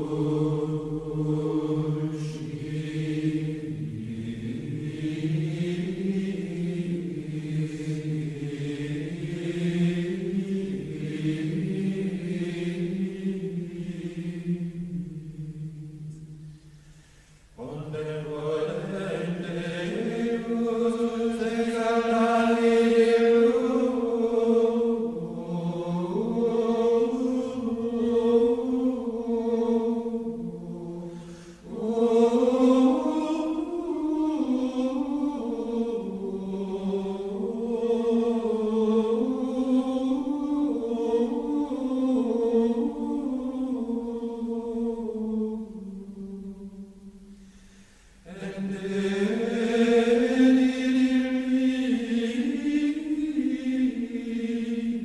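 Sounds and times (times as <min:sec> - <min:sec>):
slow unaccompanied chant: 0:00.0 - 0:55.0.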